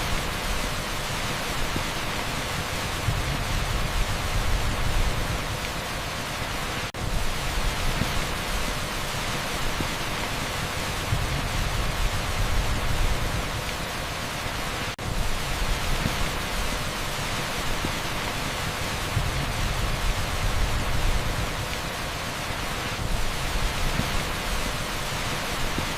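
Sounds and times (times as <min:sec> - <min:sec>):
torrential rain on street: 0:00.0 - 0:25.9.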